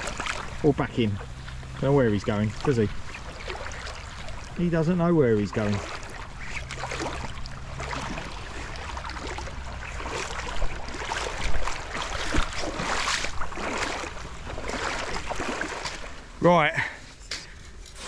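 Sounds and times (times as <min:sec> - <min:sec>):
footsteps splashing through water: 0:00.0 - 0:16.3
steady wash of water: 0:00.0 - 0:17.1.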